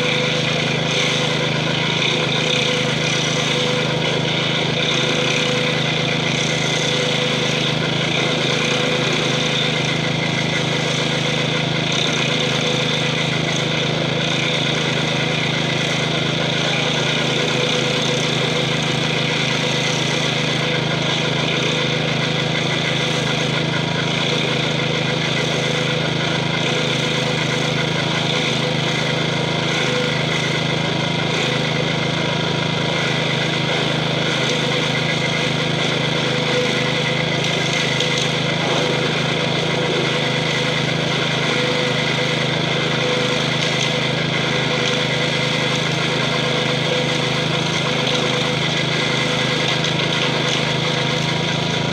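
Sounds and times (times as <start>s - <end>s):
engine running under load: 0.0s - 51.9s
stump grinder chewing stump: 0.0s - 51.9s.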